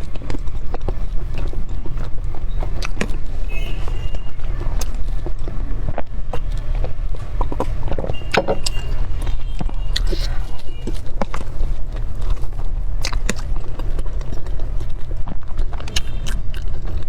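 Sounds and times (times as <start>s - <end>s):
low rumble: 0.0s - 17.0s
mouth clicks: 0.0s - 17.0s
soft chewing: 0.0s - 17.0s.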